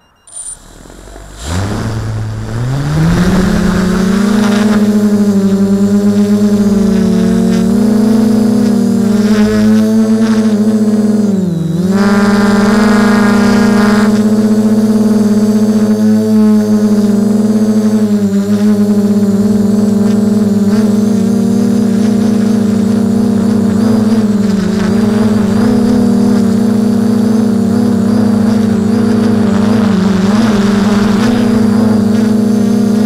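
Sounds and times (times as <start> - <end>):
drone propellers humming: 0.0 - 33.0.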